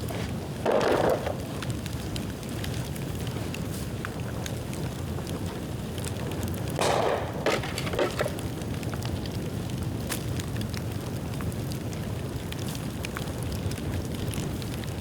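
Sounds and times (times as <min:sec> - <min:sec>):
bamboo bonfire crackling: 0:00.0 - 0:15.0.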